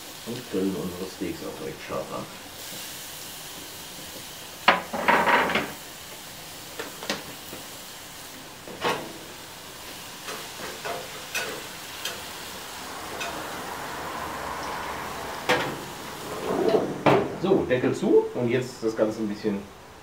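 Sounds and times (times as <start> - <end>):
steaks sizzling on grill: 0.0 - 18.2.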